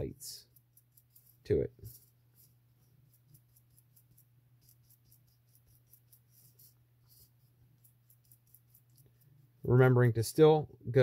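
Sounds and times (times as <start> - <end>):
paintbrush scratching on plastic: 0.0 - 9.6
low steady hum: 0.0 - 11.0.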